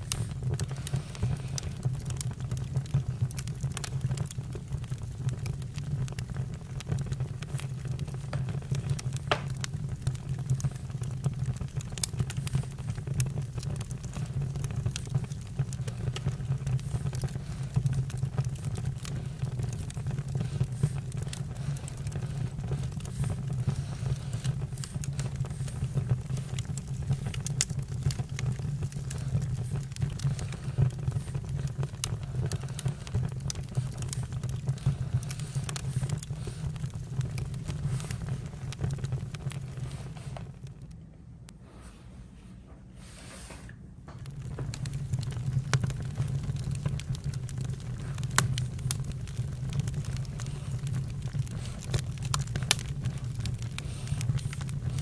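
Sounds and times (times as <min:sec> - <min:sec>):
campfire crackling and popping: 0:00.0 - 0:40.9, 0:44.1 - 0:55.0.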